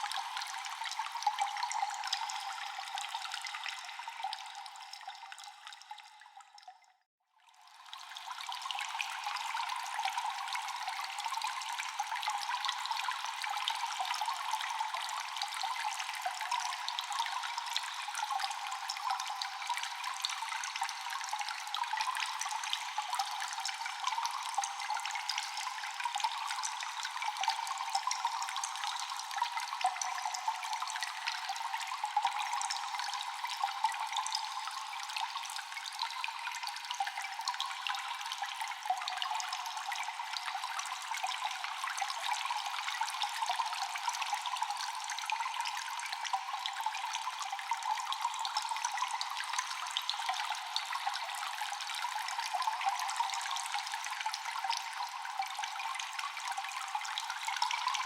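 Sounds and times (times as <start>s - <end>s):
trickling water: 0.0s - 58.0s
water drops echoing in a cave: 0.0s - 58.0s.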